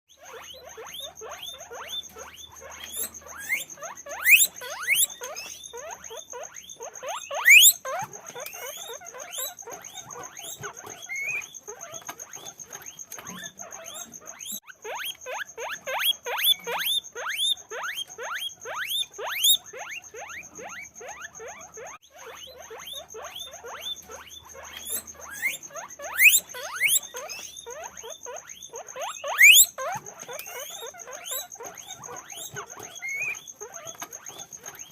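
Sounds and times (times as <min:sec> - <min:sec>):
guinea pig whistles: 0:00.1 - 0:34.9
guinea pigs squeaking: 0:00.1 - 0:34.9.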